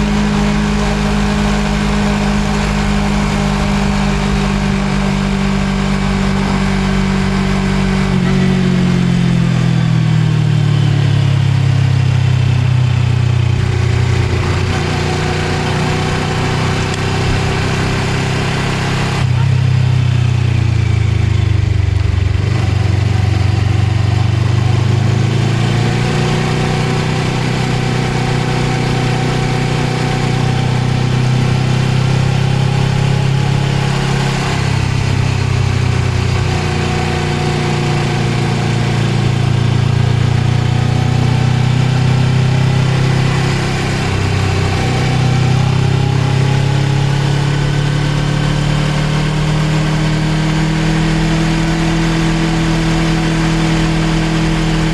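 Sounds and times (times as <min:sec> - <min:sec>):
motorcycle engine running: 0:00.0 - 0:54.9
wind and road noise: 0:00.0 - 0:54.9.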